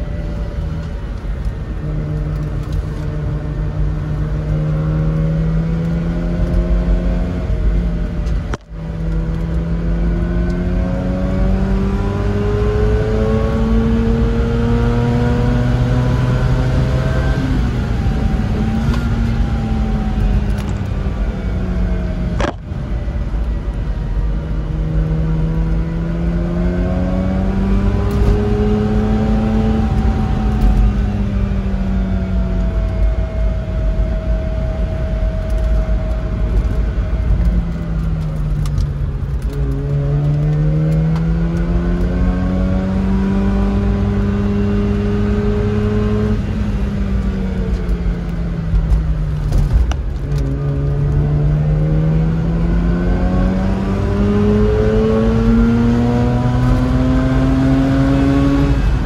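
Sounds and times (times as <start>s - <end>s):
car engine accelerating: 0.0s - 59.0s
road rumble: 0.0s - 59.0s.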